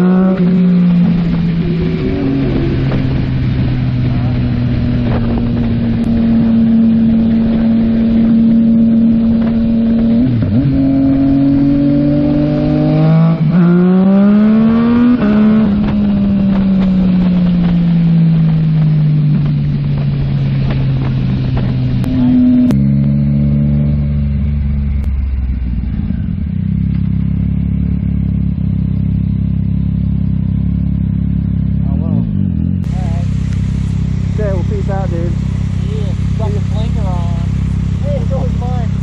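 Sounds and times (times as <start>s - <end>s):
motorcycle engine revving: 0.0s - 39.0s
road and wind noise: 0.0s - 39.0s.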